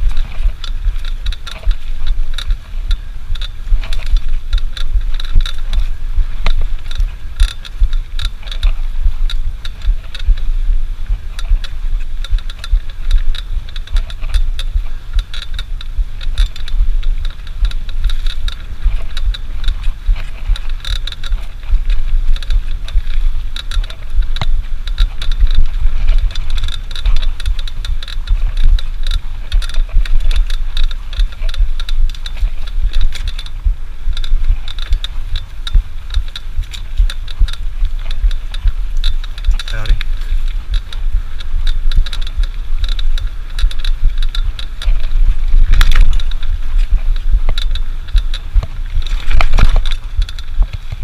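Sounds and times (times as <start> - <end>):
light clicks and rattles: 0.0 - 51.0
wind buffeting microphone: 0.0 - 51.0.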